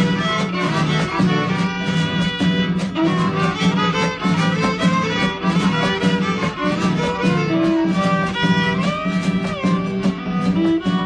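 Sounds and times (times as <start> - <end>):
violin-led instrumental music: 0.0 - 11.0.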